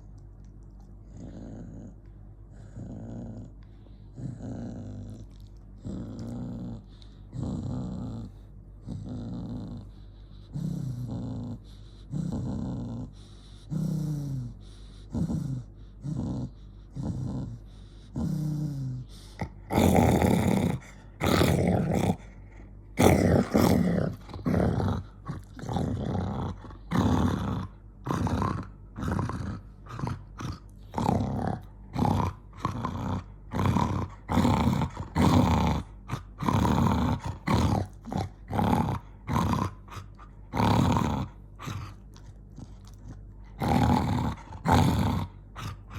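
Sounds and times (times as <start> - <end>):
dog growling: 1.0 - 45.9.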